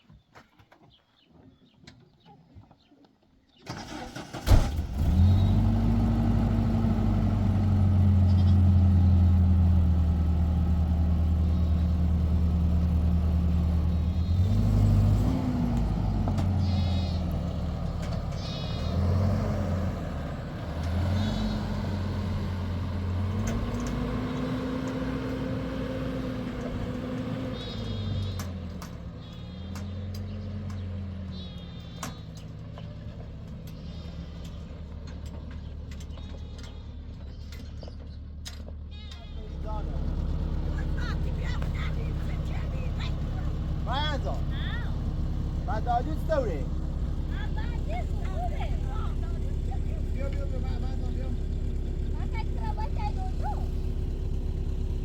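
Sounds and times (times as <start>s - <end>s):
engine starting and running: 3.6s - 55.0s.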